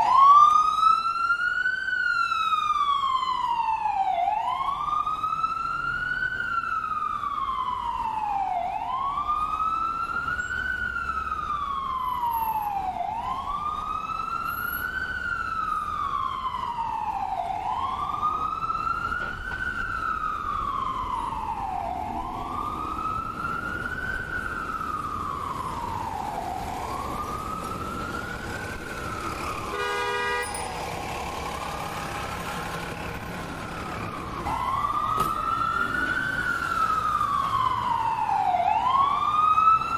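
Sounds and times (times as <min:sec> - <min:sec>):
ambulance siren wailing: 0:00.0 - 0:39.9
low road rumble: 0:00.0 - 0:39.9.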